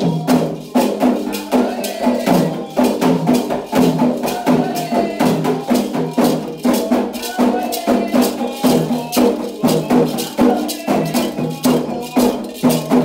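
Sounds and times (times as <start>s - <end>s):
chanted singing: 0.0s - 13.0s
drum and percussion strikes: 0.0s - 13.0s
shakers: 0.0s - 13.0s.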